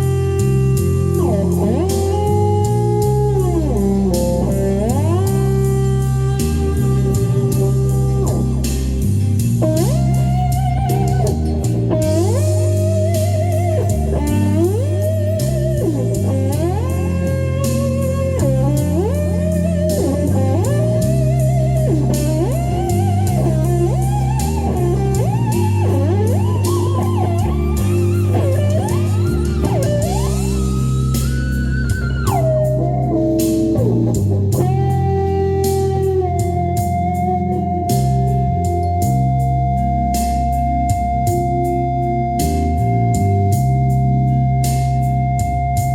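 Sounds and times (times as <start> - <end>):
blues-rock backing track: 0.0 - 45.9
lead electric guitar: 0.0 - 45.9.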